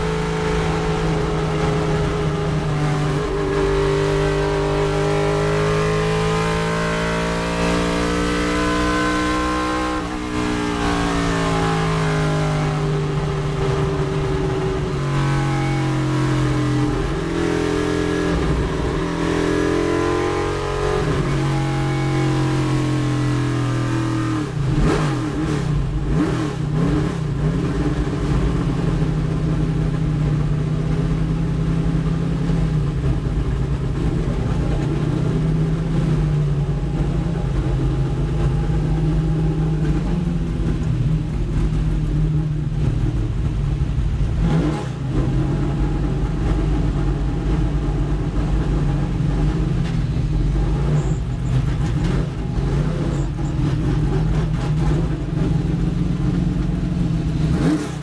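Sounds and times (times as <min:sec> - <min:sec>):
car engine at low revs: 0:00.0 - 0:58.0
road and wind noise: 0:00.0 - 0:58.0.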